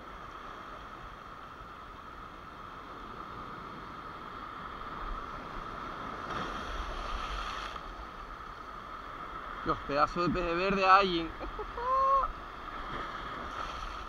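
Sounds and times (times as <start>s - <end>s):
surf washing against rocks: 0.0s - 14.0s
wave splashing: 0.0s - 14.0s.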